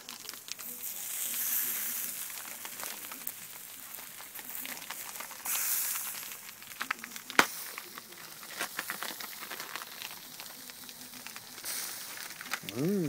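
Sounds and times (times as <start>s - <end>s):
grill crackles: 0.0s - 13.0s
meat sizzling on a grill: 0.0s - 13.0s.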